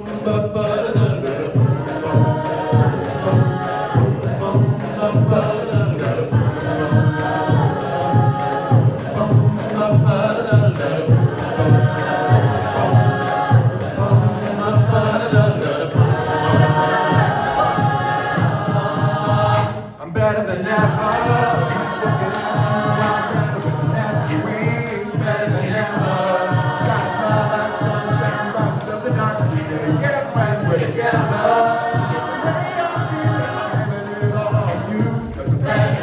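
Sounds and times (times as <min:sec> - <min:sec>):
steady low beat: 0:00.0 - 0:19.9, 0:20.6 - 0:36.0
choir singing in harmony: 0:00.0 - 0:36.0.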